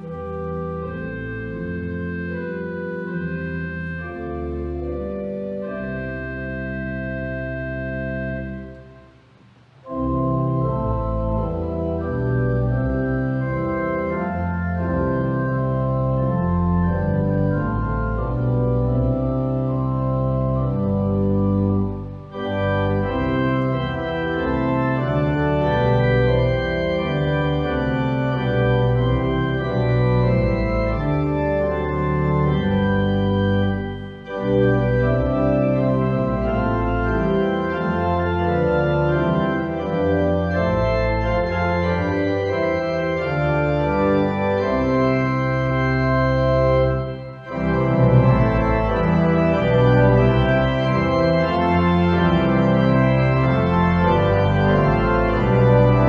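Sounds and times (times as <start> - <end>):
organ playing slow chords: 0.0 - 56.0.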